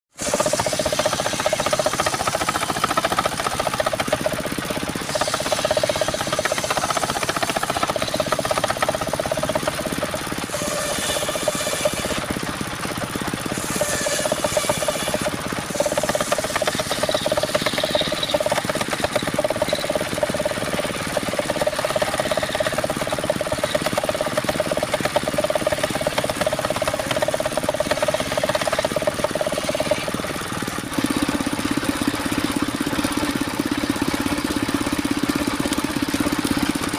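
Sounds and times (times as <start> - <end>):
engine-driven saw running: 0.1 - 36.9.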